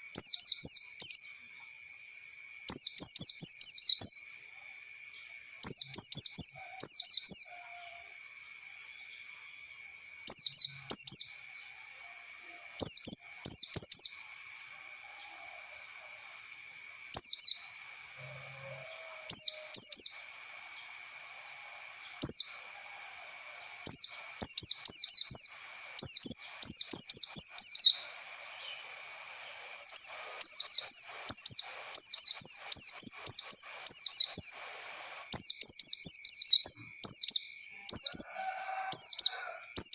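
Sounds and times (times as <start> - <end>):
bird twittering chirps: 0.0 - 1.4, 2.1 - 4.5, 5.1 - 7.8, 8.4 - 11.5, 12.8 - 14.5, 17.1 - 22.7, 23.6 - 38.4, 39.0 - 39.9
faint high whine: 0.0 - 39.6.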